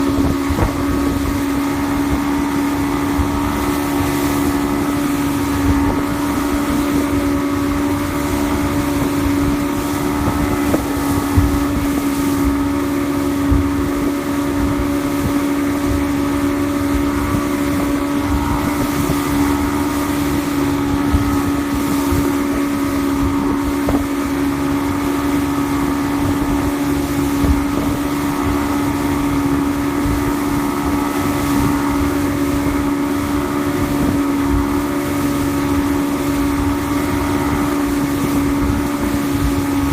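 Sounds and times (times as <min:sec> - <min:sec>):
outboard motor running: 0:00.0 - 0:39.9
wind buffeting microphone: 0:00.0 - 0:39.9.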